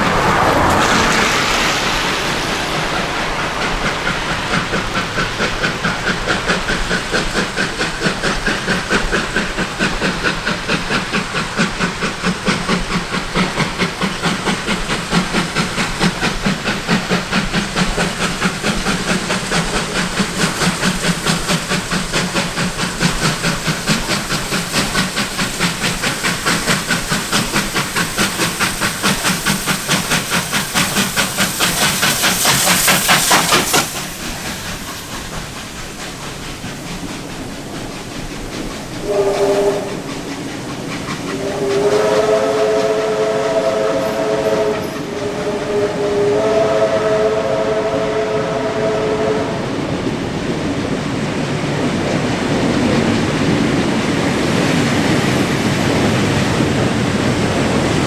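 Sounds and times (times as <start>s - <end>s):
steam hissing: 0.0s - 58.0s
steam locomotive chuffing: 0.0s - 58.0s.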